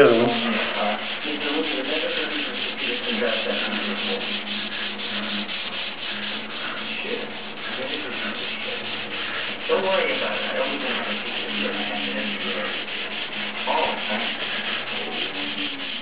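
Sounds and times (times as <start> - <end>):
sandpaper rubbing wet surface: 0.0 - 16.0.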